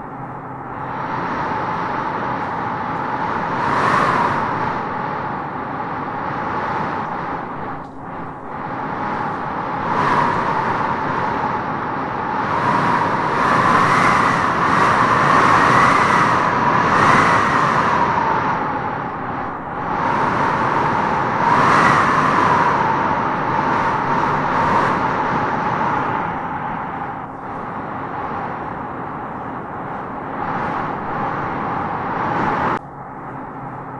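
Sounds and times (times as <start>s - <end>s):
gusty wind howling: 0.0s - 33.9s.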